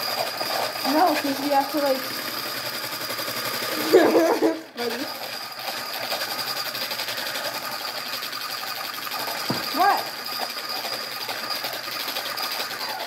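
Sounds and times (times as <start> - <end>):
electric hand mixer whine: 0.0 - 13.0.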